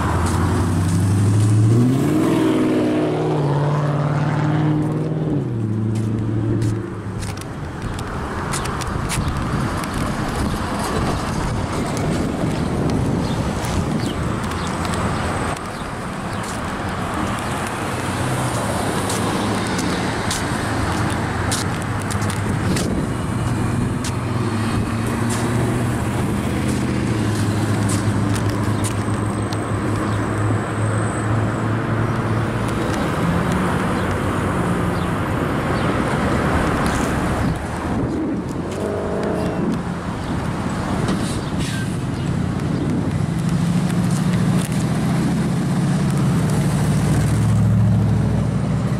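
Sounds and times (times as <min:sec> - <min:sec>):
road and traffic noise: 0:00.0 - 0:48.9.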